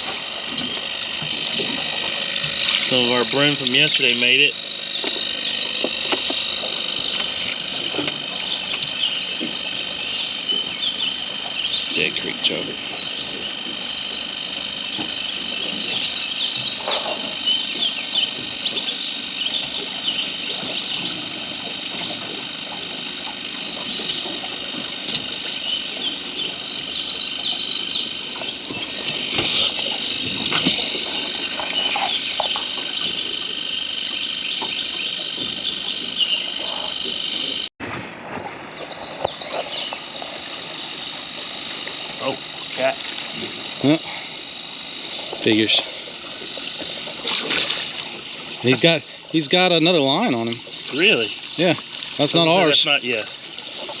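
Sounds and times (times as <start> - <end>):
high-pitched drone: 0.0 - 37.7, 38.3 - 54.0.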